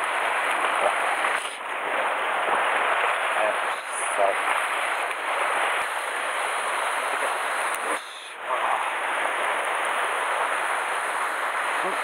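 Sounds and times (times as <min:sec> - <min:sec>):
sea surf against rocks: 0:00.0 - 0:12.0
wind: 0:00.0 - 0:12.0.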